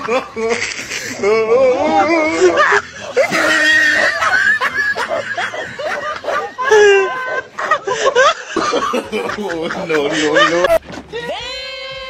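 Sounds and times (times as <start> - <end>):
people laughing hard: 0.0 - 11.3.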